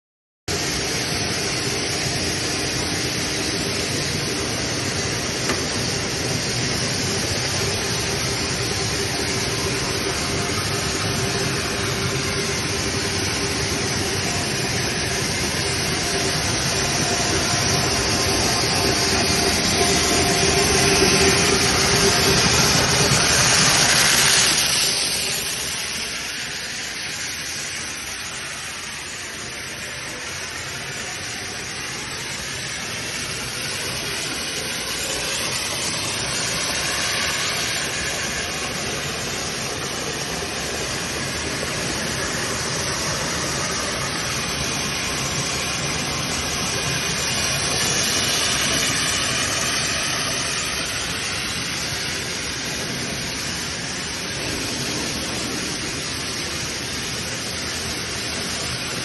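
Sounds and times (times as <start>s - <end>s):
extrusion machine hiss and hum: 0.5s - 59.0s.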